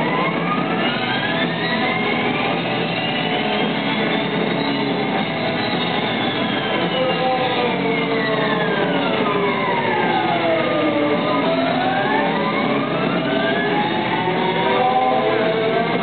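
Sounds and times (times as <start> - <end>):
live band droning: 0.0 - 16.0
siren-like sliding tone: 0.0 - 16.0.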